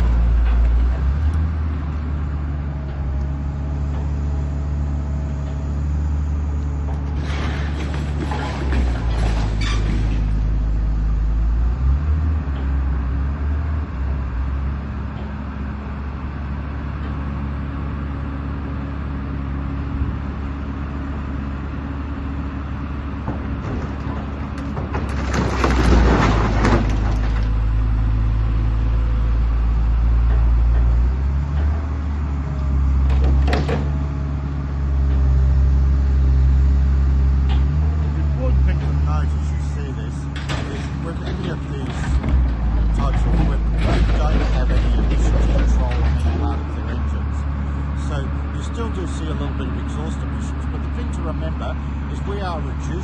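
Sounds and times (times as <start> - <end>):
diesel engine under load: 0.0 - 53.0.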